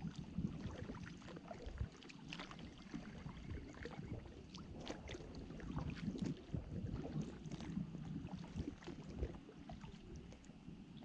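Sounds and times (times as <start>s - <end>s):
kayak paddle dipping in water: 0.0s - 10.6s
small splashes and drips: 0.0s - 11.0s.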